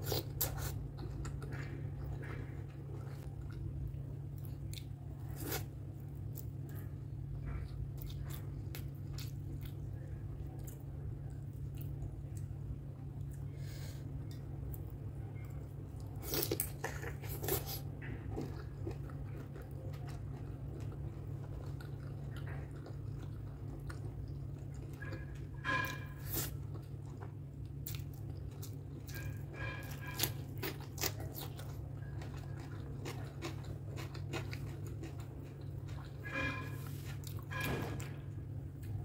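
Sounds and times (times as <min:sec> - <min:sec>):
person chewing with wet smacks: 0:00.0 - 0:13.5, 0:14.2 - 0:37.4
steady low hum: 0:00.0 - 0:39.0.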